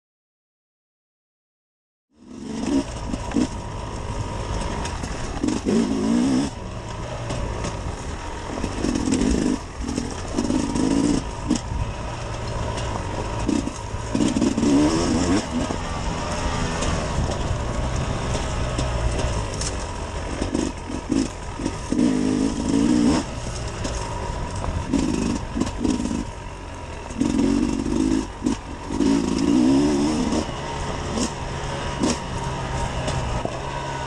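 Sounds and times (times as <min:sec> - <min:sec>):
motorcycle engine revving: 0:02.1 - 0:34.0.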